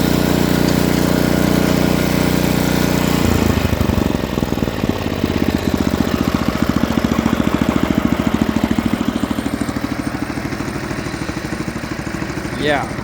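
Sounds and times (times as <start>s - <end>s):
snowblower engine running: 0.0s - 13.0s.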